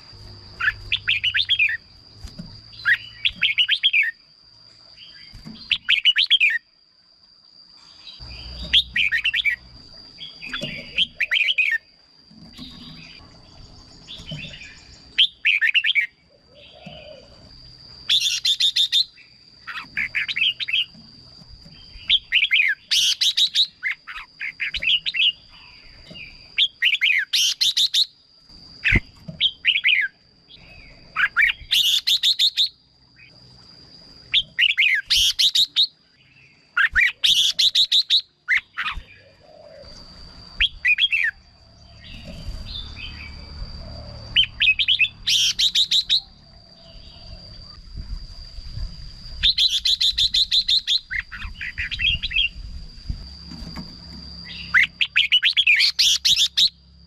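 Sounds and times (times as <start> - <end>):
bird warbling song: 0.0 - 4.2, 4.9 - 6.6, 7.8 - 52.7, 53.3 - 56.8.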